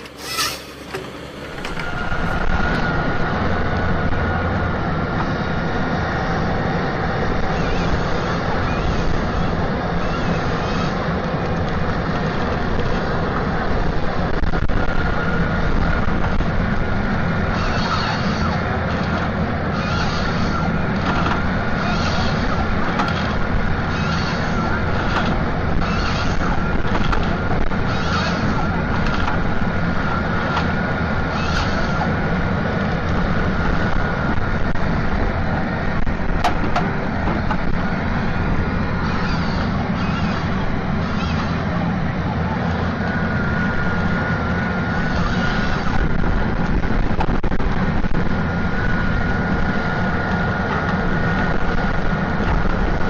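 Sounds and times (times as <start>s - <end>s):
heavy machine whining: 0.0s - 53.0s.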